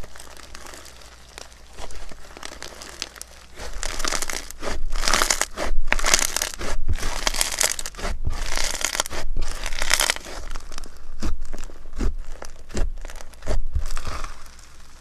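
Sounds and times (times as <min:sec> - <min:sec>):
slime crackling and crinkling: 0:00.0 - 0:15.0
slime popping: 0:00.0 - 0:15.0.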